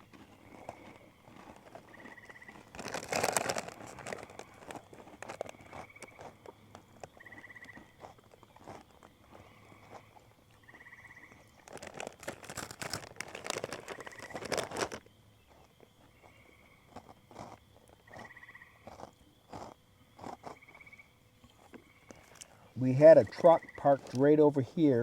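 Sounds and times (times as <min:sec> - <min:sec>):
loud crunching and rustling: 0:00.0 - 0:20.6, 0:23.1 - 0:24.6
crickets trilling: 0:00.0 - 0:25.0.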